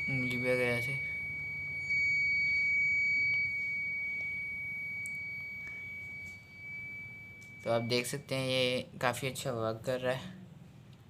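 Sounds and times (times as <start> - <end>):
high-pitched alarm buzzer tone: 0.0 - 8.9.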